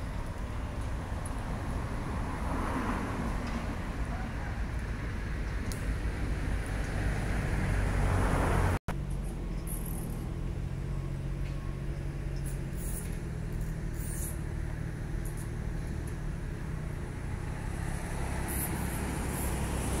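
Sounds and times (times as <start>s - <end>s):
engine running low drone: 0.0s - 20.0s.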